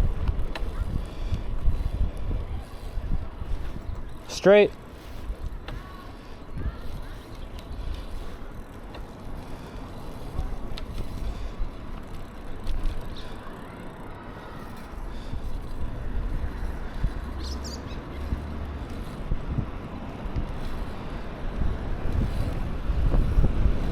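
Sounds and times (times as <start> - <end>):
wind rushing over microphone: 0.0 - 13.2, 14.0 - 23.9
bicycle rolling noise: 0.0 - 23.9.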